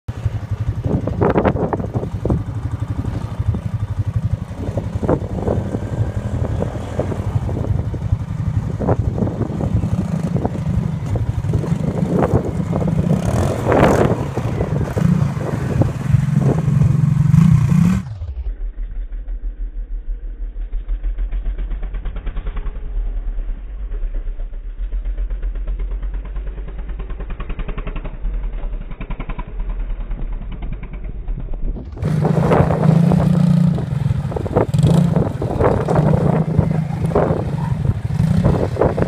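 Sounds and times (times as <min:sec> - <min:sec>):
quad engine revving: 0:00.1 - 0:18.3, 0:25.0 - 0:39.0.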